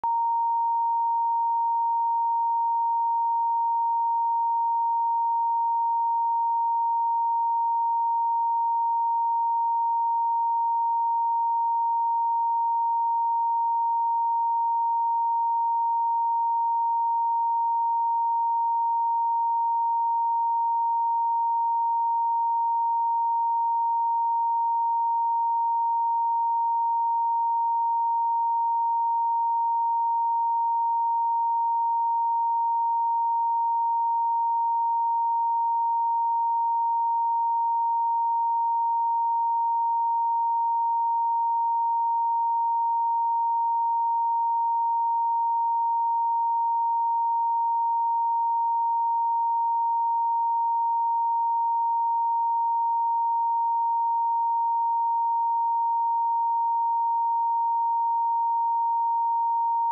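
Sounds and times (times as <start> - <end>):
sine-wave test tone: 0.0 - 59.9.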